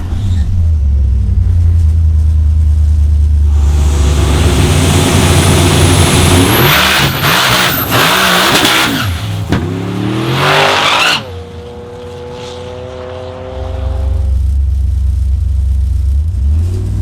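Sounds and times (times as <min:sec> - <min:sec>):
drag car engine revving: 0:03.2 - 0:17.0.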